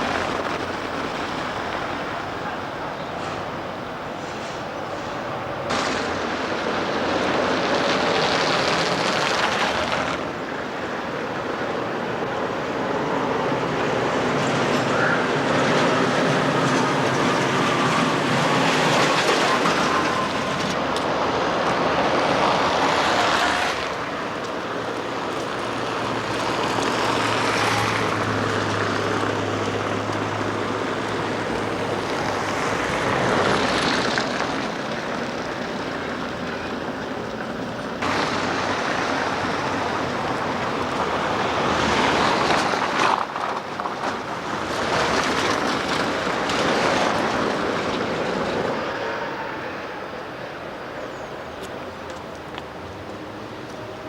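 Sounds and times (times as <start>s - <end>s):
tram passing: 0.0s - 54.0s
vehicles passing: 0.0s - 54.0s.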